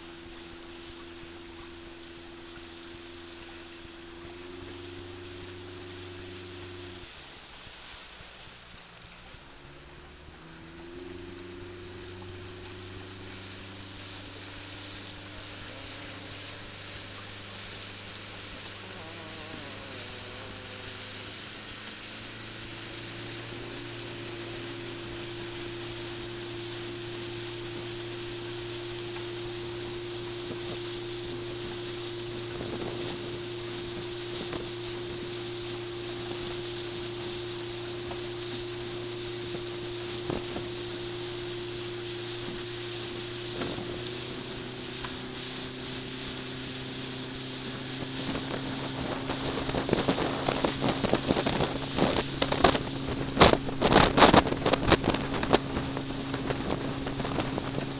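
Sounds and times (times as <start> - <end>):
boat engine hum: 0.0 - 57.9
steady hiss: 0.0 - 57.9.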